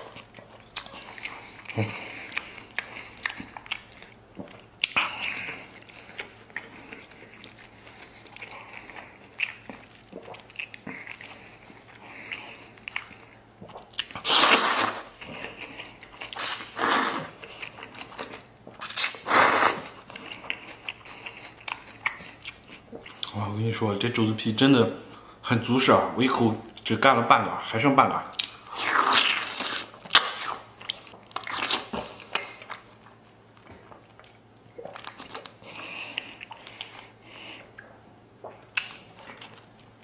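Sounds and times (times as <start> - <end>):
person chewing with wet smacking: 0.0 - 23.5, 28.0 - 40.0.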